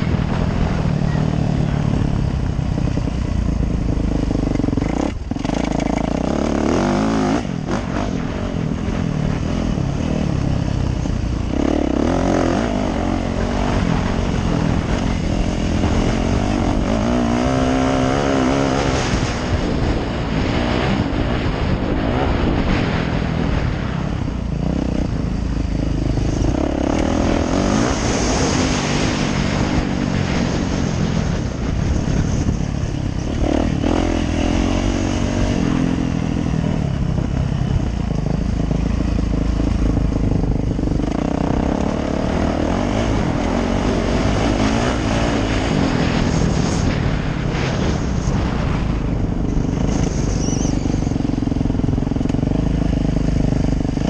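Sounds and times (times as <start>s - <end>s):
dirt bike engine revving: 0.0s - 54.0s
rushing wind noise: 0.0s - 54.0s.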